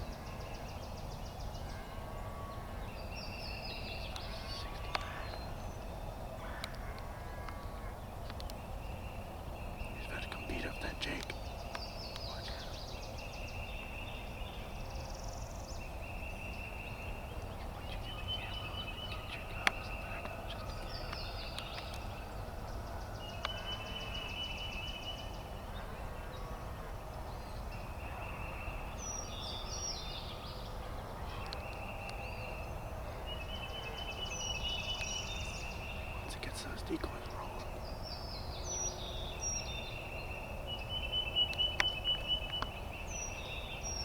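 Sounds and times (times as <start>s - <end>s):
songbird trills: 0.0s - 44.0s.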